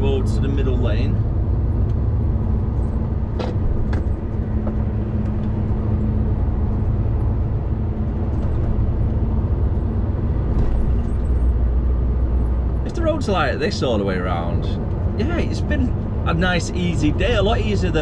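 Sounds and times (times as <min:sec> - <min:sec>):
lorry engine drone: 0:00.0 - 0:18.0
road and tyre noise: 0:00.0 - 0:18.0.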